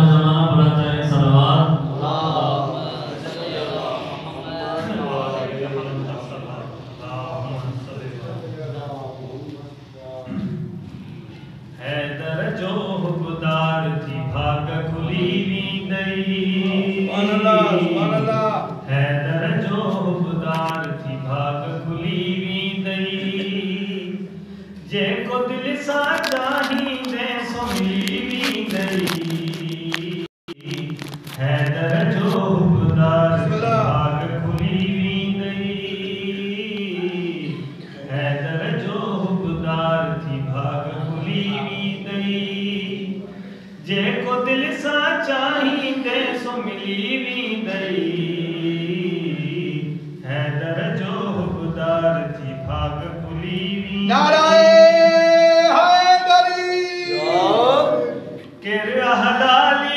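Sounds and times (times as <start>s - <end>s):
man chanting into a microphone: 0.0s - 9.3s, 10.2s - 59.9s.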